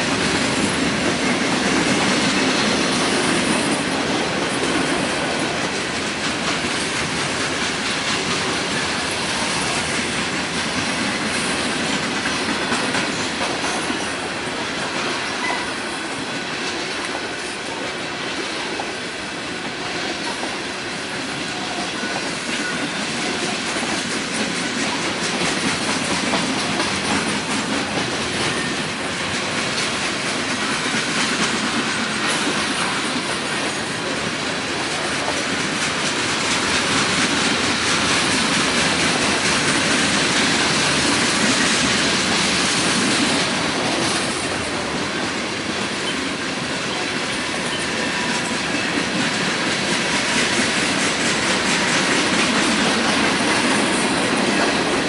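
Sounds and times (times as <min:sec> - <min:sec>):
railroad cars rolling past: 0:00.0 - 0:55.0
wheels clacking over rail joints: 0:00.0 - 0:55.0.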